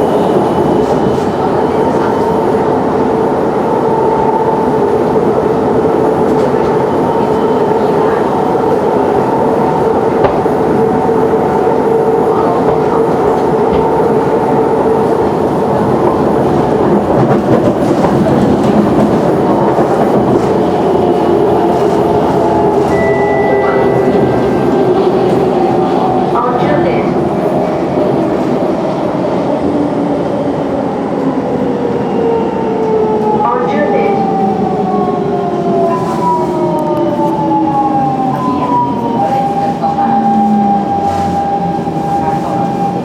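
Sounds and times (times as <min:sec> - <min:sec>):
train wheels rumbling on rail: 0:00.0 - 0:33.4, 0:34.1 - 0:43.0.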